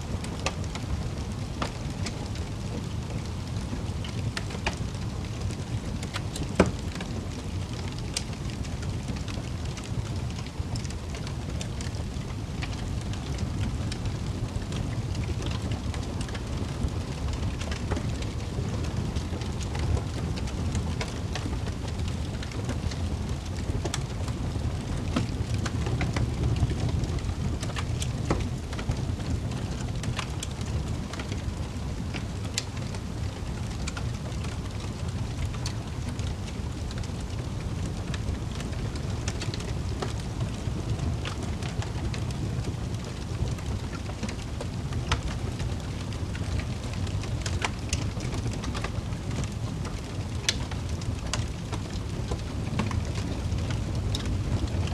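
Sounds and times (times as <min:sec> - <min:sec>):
fire crackles and pops: 0:00.0 - 0:54.9
fire rumbling in fireplace: 0:00.0 - 0:54.9.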